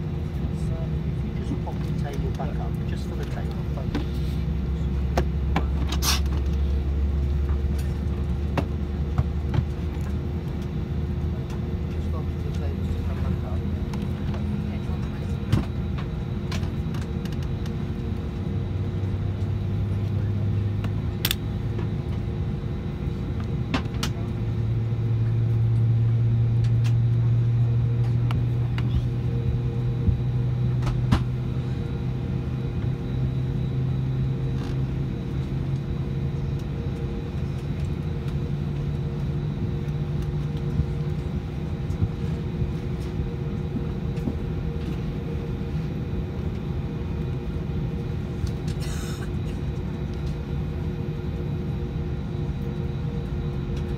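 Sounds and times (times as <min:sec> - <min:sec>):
aircraft cabin hum: 0:00.0 - 0:53.9.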